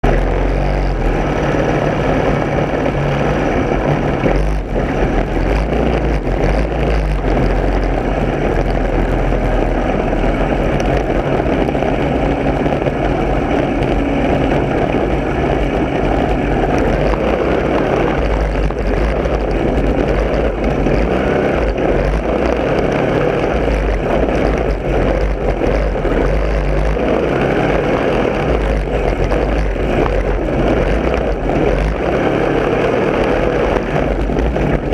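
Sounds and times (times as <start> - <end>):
lawn mower engine running: 0.0 - 34.9.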